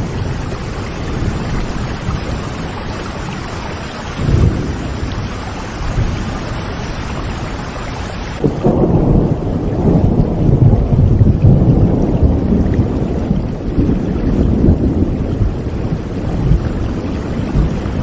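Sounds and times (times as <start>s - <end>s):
rolling thunder: 0.0s - 7.5s, 8.4s - 18.0s
heavy rain: 0.0s - 18.0s.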